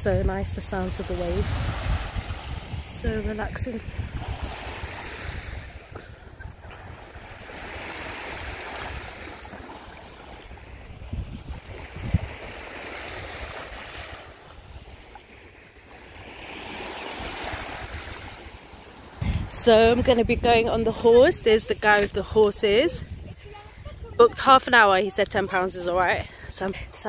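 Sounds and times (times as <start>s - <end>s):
waves washing on a sandy shore: 0.0s - 27.0s
wind buffeting microphone: 0.0s - 27.0s.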